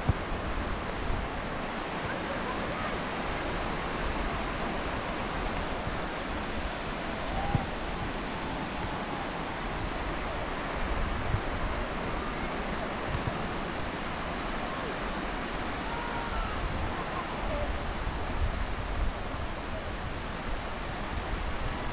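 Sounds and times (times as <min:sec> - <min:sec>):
ocean surf: 0:00.0 - 0:21.9
wind on microphone: 0:00.0 - 0:21.9.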